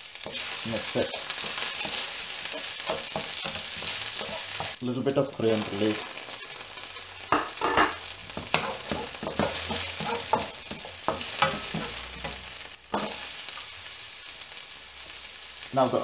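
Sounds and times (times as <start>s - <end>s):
onion hitting hot oil: 0.0s - 13.8s
food sizzling in hot oil: 0.0s - 16.0s
wooden spatula scraping a wok: 0.2s - 4.8s, 5.4s - 13.7s.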